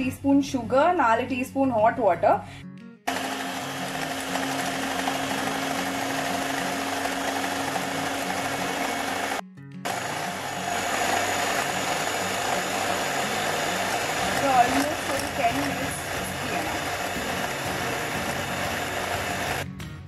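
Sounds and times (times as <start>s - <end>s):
electric hand mixer whirring: 3.1s - 19.7s.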